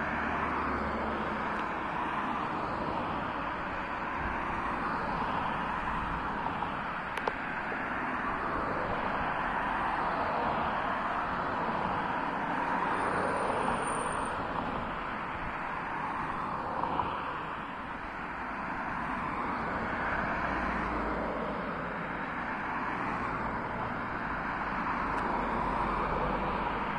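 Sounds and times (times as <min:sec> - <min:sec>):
cars driving past: 0:00.0 - 0:26.9.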